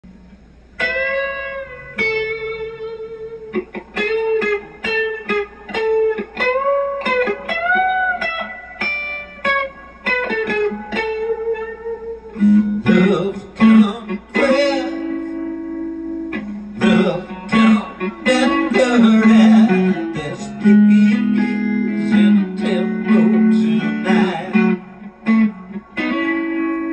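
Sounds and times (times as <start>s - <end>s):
clean electric guitar playing: 0.0s - 26.9s.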